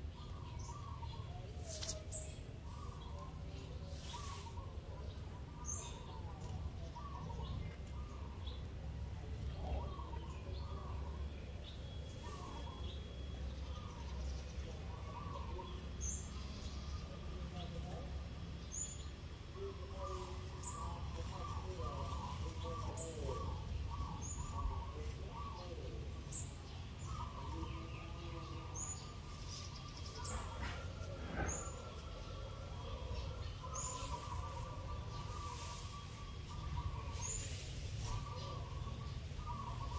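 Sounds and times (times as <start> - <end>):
birds chirping and cooing: 0.0 - 39.9.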